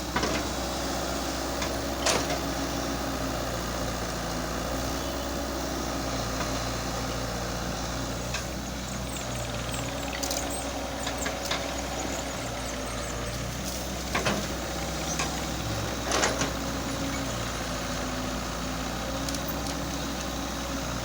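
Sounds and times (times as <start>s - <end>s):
crane engine running: 0.0s - 21.0s.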